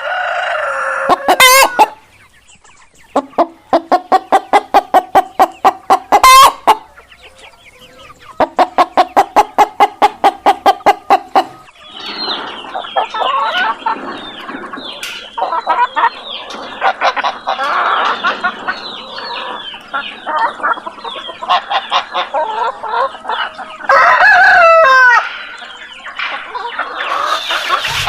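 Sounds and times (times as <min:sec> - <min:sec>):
hens clucking and cackling: 0:00.0 - 0:28.0.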